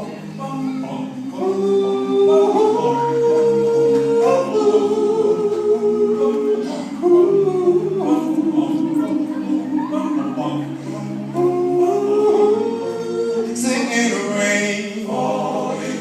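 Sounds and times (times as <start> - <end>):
vocal group singing in harmony: 0.0 - 16.0.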